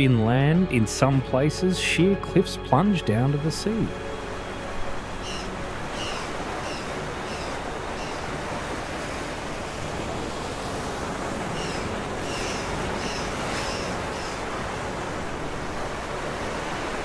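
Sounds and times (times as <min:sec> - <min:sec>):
sea surf: 0:00.0 - 0:17.0.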